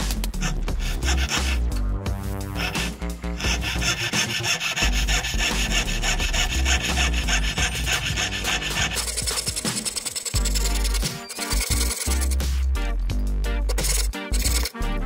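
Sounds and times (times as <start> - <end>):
saw blade rasping through metal: 0.0 - 12.6, 13.7 - 14.8
background music with bass: 0.0 - 15.0.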